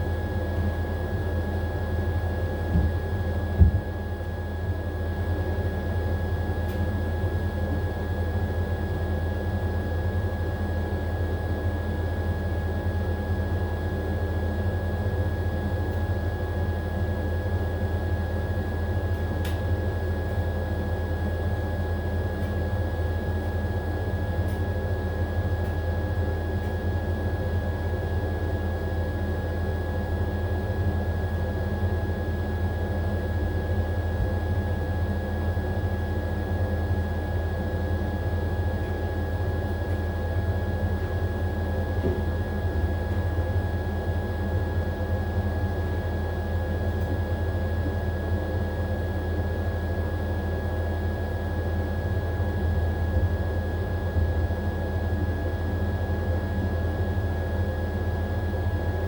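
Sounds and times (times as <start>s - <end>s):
washing machine spin cycle: 0.0s - 59.0s.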